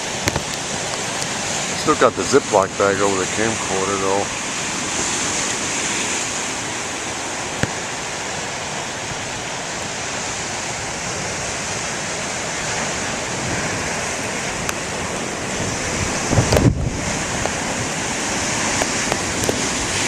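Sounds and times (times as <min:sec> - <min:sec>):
ocean waves breaking: 0:00.0 - 0:20.0
wind: 0:00.0 - 0:20.0.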